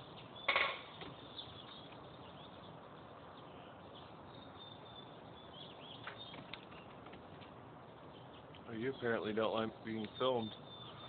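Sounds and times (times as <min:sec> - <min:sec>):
faint bird chirps: 0:00.0 - 0:07.0, 0:08.0 - 0:11.0
outdoor background hiss: 0:00.0 - 0:11.0.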